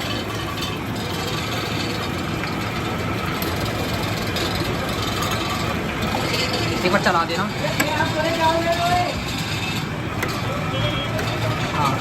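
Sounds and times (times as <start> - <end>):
engine idling: 0.0 - 12.0
street noise: 0.0 - 12.0.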